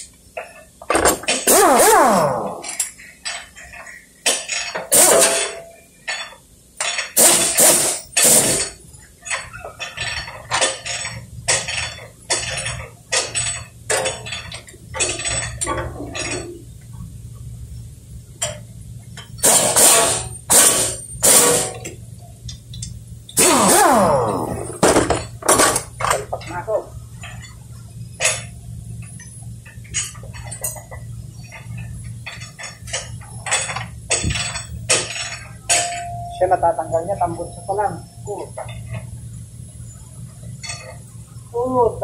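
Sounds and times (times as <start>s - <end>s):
hand tools clanking on metal: 0.4s - 16.6s, 19.2s - 39.1s.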